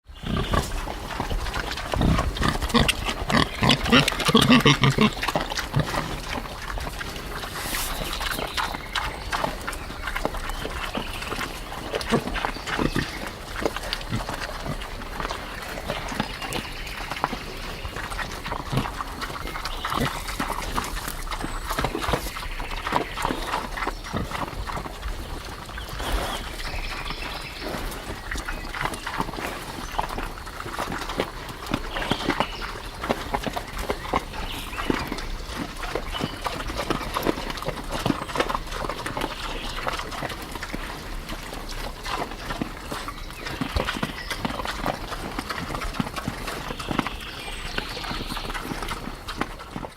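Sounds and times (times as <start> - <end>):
pigs chomping wetly: 0.0 - 49.9
pigs grunting: 0.1 - 49.9.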